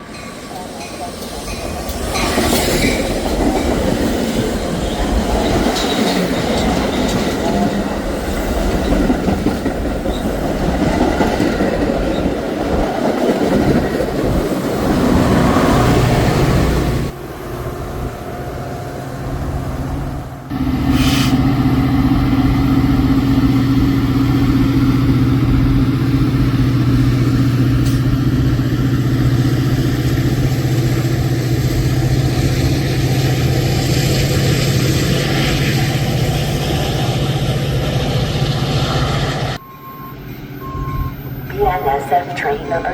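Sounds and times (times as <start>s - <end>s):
diesel locomotive drone: 0.0s - 42.9s
train rumbling on rails: 0.0s - 42.9s.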